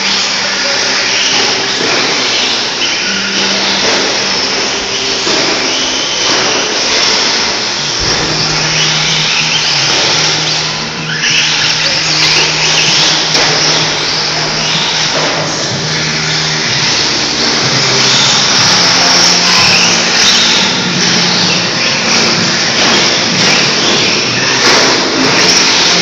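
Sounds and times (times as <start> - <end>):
electric motor whine: 0.0 - 26.0
tyre and chassis noise: 0.0 - 26.0
steady low hum: 1.5 - 26.0.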